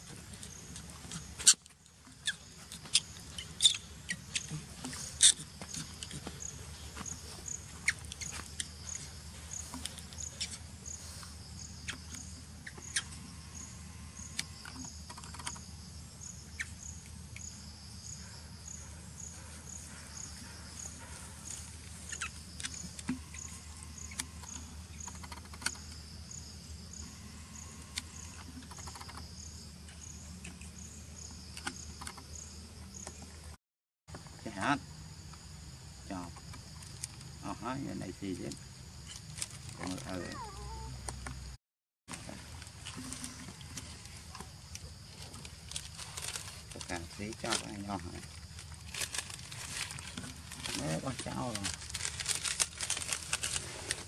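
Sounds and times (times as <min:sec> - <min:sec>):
insect chirping: 0:00.0 - 0:54.0.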